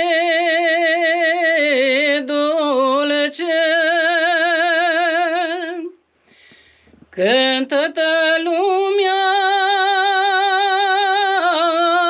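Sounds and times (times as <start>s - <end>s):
person singing unaccompanied: 0.0s - 6.0s, 7.0s - 12.0s.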